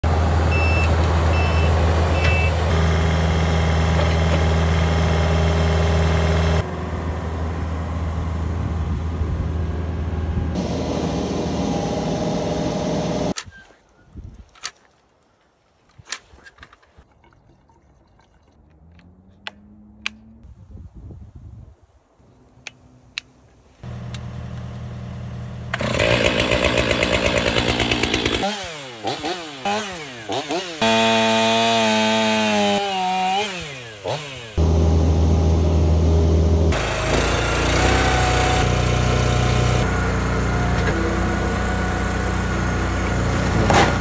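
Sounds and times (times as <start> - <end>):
excavator diesel engine and hydraulics: 0.0 - 13.8, 18.8 - 20.5, 22.2 - 44.0.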